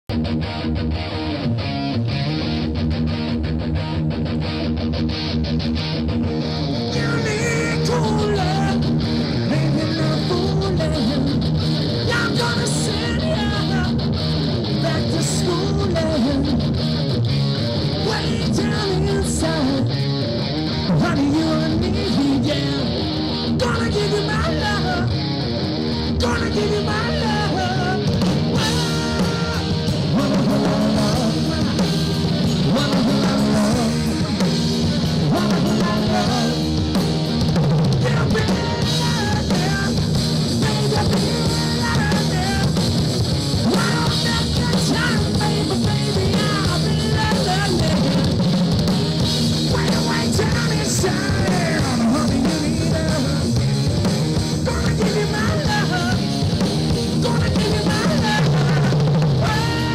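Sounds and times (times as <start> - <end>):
bass guitar: 0.0 - 59.9
electric guitar: 0.0 - 59.9
drum kit: 0.1 - 59.9
person singing: 6.8 - 16.7, 17.6 - 20.2, 20.9 - 25.2, 25.9 - 37.1, 37.9 - 48.8, 49.6 - 59.9.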